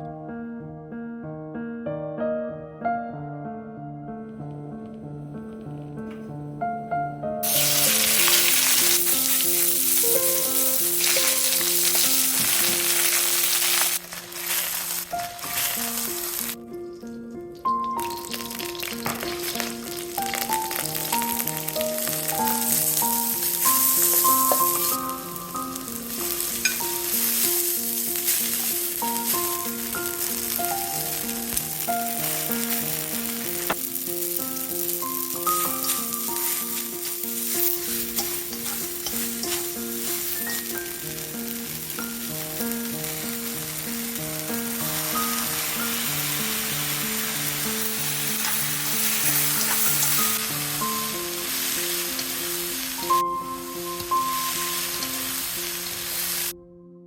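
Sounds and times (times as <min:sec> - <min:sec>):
stir-fry sizzling in a pan: 0:07.4 - 0:16.6, 0:17.7 - 0:56.6.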